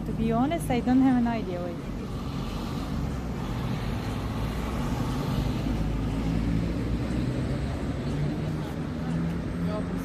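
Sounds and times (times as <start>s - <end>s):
low rumble of motor traffic: 0.0s - 10.0s.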